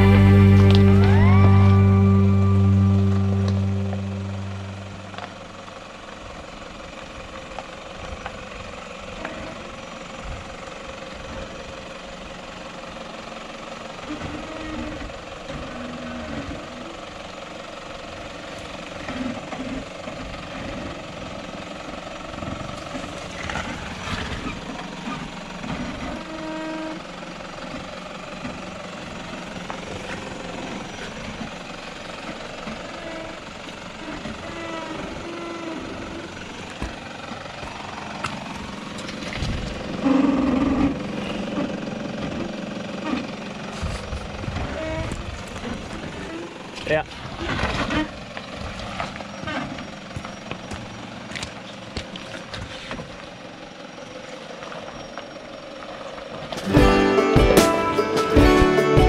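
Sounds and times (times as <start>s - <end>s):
vehicle engine: 0.0s - 59.0s
vehicle rattling over rough ground: 0.0s - 59.0s.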